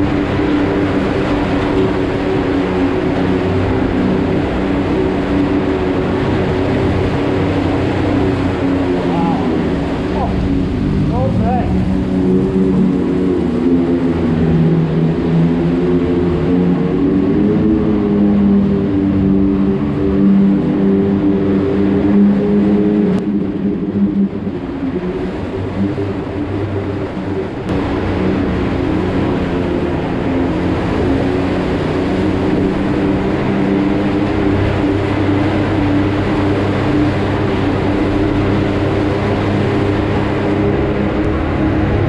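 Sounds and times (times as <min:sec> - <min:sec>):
utility vehicle engine running: 0:00.0 - 0:42.0.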